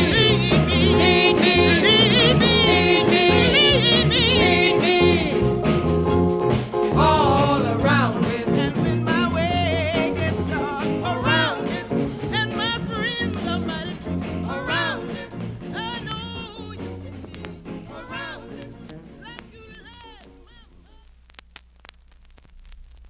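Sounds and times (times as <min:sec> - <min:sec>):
person singing over funk band: 0:00.0 - 0:21.0
drums: 0:00.0 - 0:23.0.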